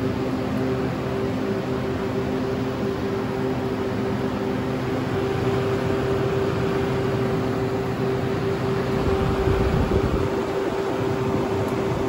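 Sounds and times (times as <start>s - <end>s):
evaporator fans whirring: 0.0s - 12.0s.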